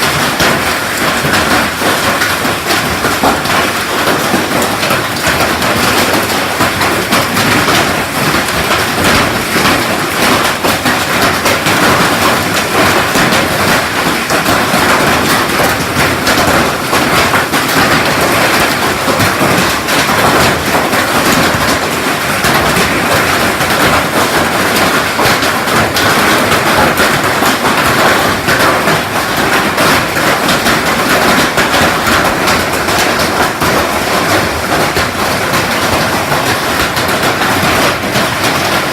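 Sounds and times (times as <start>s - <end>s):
heavy hail clattering: 0.0s - 38.9s.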